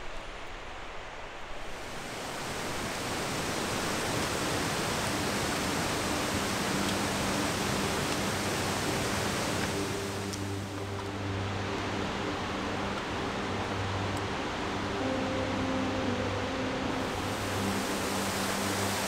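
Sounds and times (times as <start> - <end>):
stream rushing over boulders: 0.0 - 19.0.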